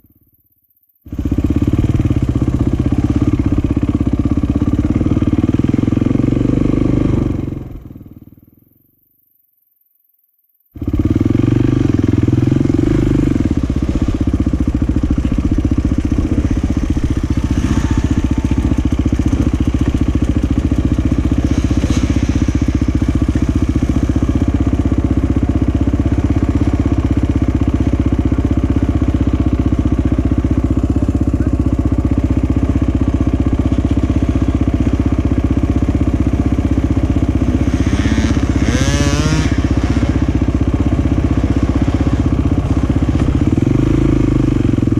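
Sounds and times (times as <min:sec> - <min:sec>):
motocross engines revving: 0:01.1 - 0:08.0, 0:10.8 - 0:44.9.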